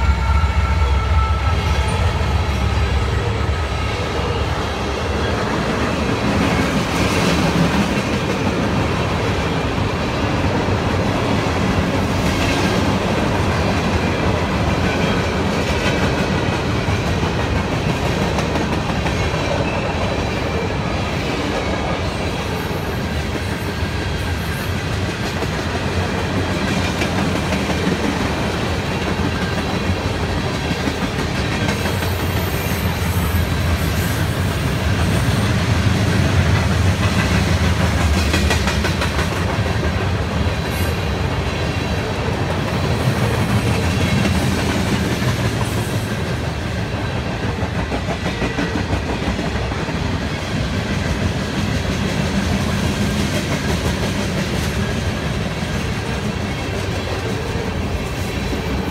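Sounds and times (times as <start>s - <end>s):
train wheels rolling on rails: 0.0s - 58.9s.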